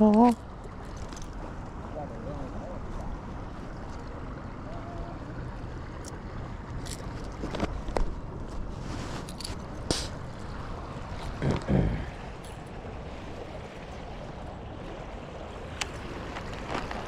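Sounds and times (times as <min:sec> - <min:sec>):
wind and water noise: 0:00.0 - 0:17.0.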